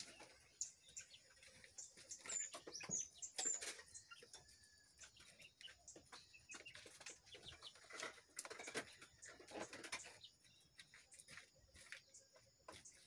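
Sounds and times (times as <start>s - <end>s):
faint bird chirps: 0.0s - 13.0s
rustling of plants and soil: 0.0s - 13.0s.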